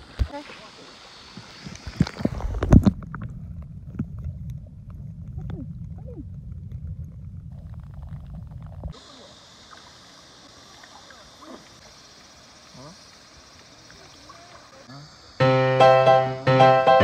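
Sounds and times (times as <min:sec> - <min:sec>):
splashing and bubbling water: 0:00.0 - 0:15.4
muffled underwater rumble: 0:00.1 - 0:15.4
bubbly gurgles: 0:01.5 - 0:15.3.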